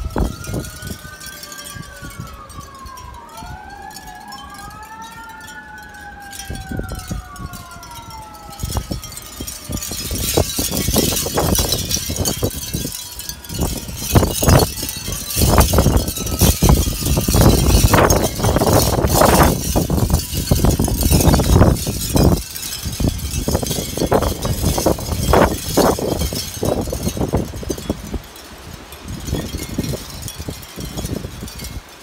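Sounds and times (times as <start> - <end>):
wind buffeting microphone: 0.0 - 4.1, 4.7 - 32.0
siren wailing: 0.0 - 27.7
wind chime clattering: 0.0 - 32.0.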